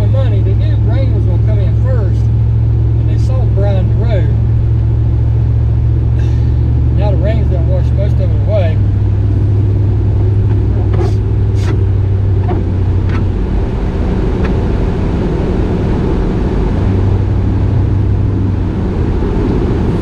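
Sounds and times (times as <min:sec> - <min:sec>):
car engine droning low: 0:00.0 - 0:20.0
road noise: 0:00.0 - 0:20.0.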